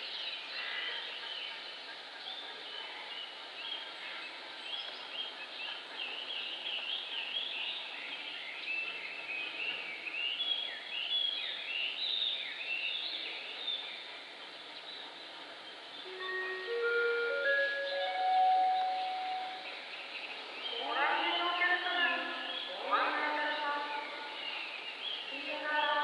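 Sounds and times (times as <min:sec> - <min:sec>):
faint outdoor background noise: 0:00.0 - 0:26.0
small birds chirping: 0:00.0 - 0:26.0.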